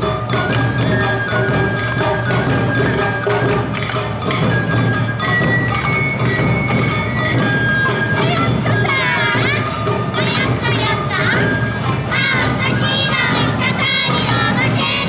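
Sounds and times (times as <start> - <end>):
drums: 0.0 - 15.0
high flute melody: 0.0 - 15.0.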